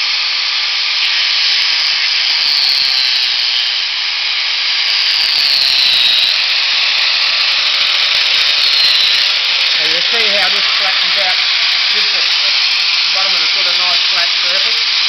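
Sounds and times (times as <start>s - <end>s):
power grinder grinding hoof: 0.0s - 15.0s.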